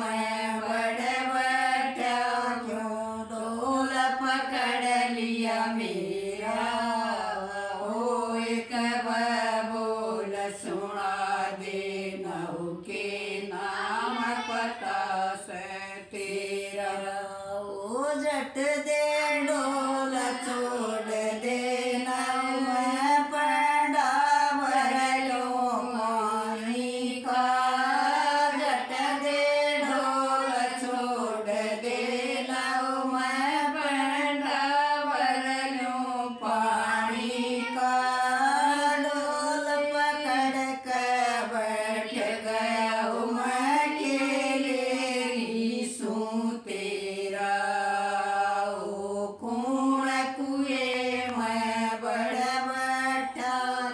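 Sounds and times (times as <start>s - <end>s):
women singing folk song unaccompanied: 0.0s - 53.9s.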